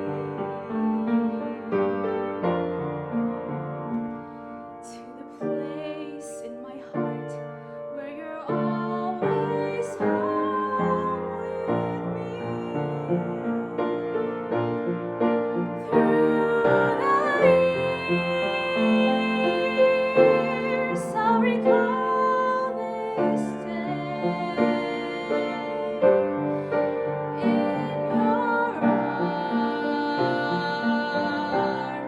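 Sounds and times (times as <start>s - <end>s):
piano chords: 0.0s - 32.0s.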